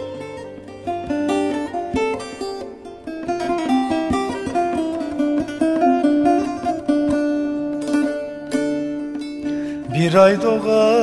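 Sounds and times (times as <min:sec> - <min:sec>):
plucked string instrument melody: 0:00.0 - 0:11.0.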